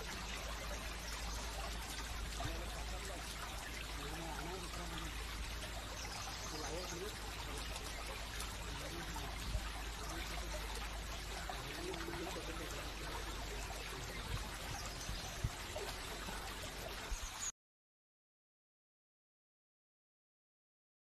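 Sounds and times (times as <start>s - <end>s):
flowing water rushing: 0.0s - 17.5s.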